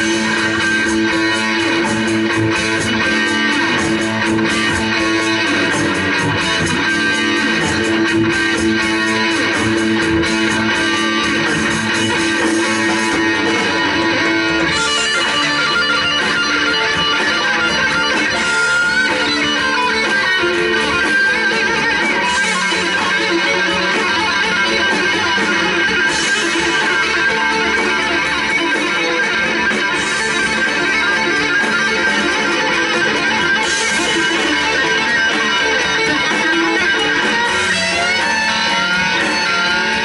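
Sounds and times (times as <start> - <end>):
electric guitar notes: 0.0 - 40.0
live instrumental rock: 0.0 - 40.0.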